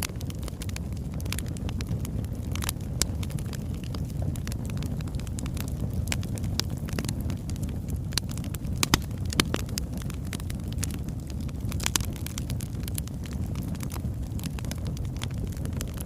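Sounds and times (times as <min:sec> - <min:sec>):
fire popping: 0:00.0 - 0:16.0
flame rumble: 0:00.0 - 0:16.0.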